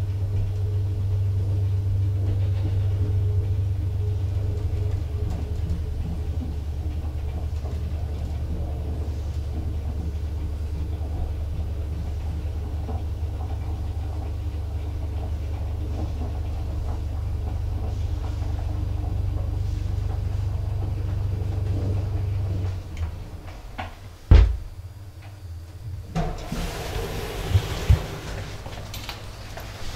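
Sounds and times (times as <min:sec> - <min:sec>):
elevator humming and rumbling: 0:00.0 - 0:29.9.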